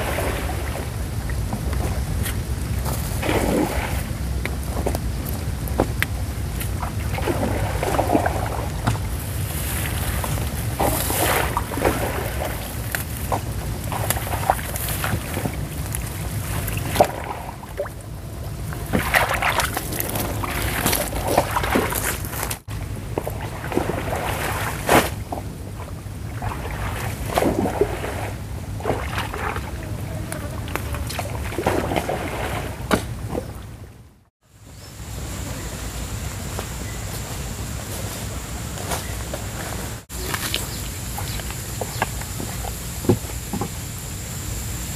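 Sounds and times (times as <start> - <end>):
rustling leaves: 0.0 - 33.2, 34.4 - 44.9.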